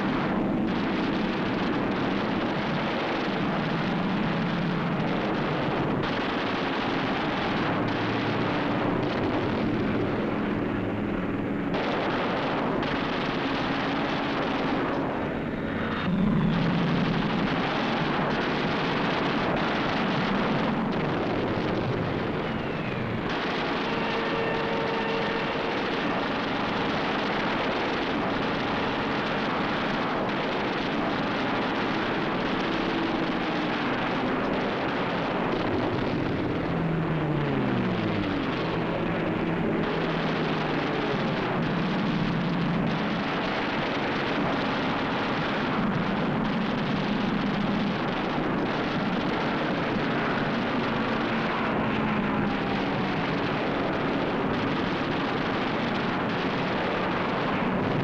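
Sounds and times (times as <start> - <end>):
propeller plane engine running: 0.0 - 58.0.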